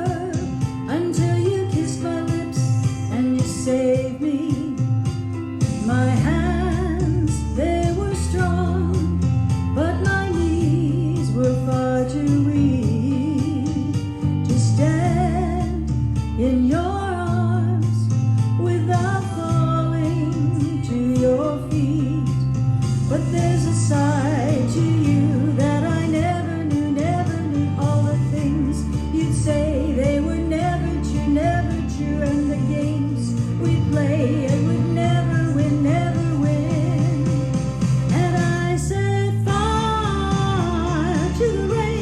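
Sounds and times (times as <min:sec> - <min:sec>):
deep bass: 0:00.0 - 0:42.0
instrumental backing: 0:00.0 - 0:42.0.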